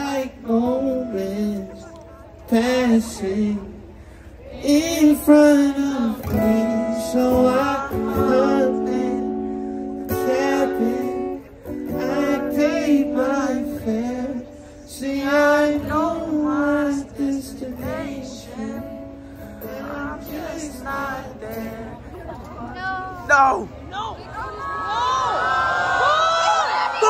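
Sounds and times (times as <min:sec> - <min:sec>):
guitar accompaniment: 0:00.0 - 0:23.7.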